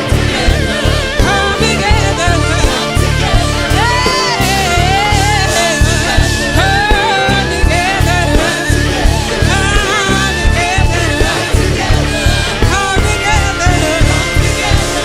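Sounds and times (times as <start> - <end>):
live band with pulsing bass: 0.0 - 15.0
person singing pop song: 0.0 - 15.0.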